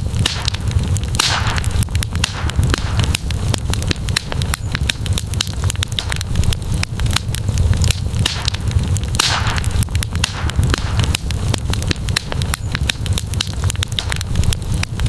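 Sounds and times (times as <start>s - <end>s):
campfire crackling and popping: 0.0s - 15.0s
fire hiss: 0.0s - 15.0s
low rumble of flames: 0.0s - 15.0s.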